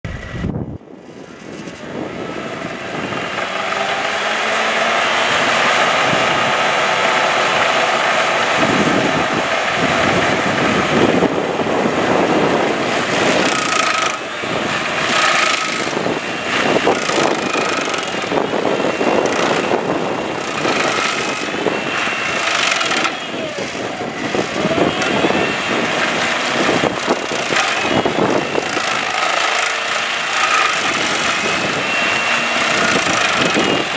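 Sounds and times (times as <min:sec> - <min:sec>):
cutter wheel grinding stump: 0:00.1 - 0:33.9
stump grinder engine running: 0:00.1 - 0:33.9.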